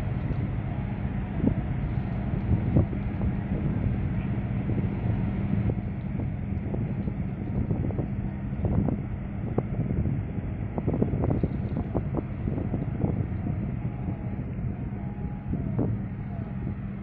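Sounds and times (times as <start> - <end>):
boat engine drone: 0.0 - 17.0
wind buffeting microphone: 0.0 - 17.0.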